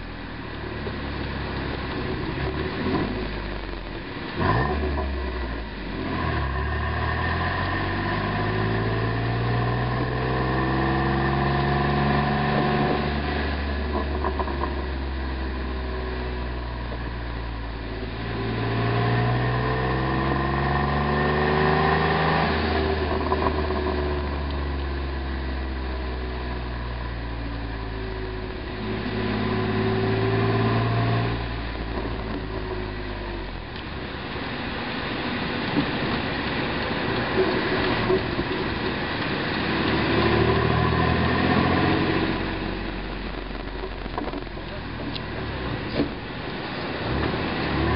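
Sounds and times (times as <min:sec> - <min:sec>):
exhaust pops: 0:00.0 - 0:17.5, 0:22.4 - 0:34.2, 0:35.6 - 0:47.9
car engine revving: 0:00.0 - 0:47.9.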